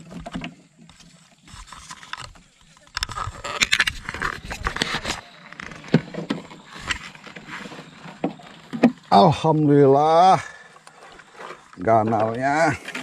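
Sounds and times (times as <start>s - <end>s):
rumbling and rubbing in canoe: 0.0s - 13.0s.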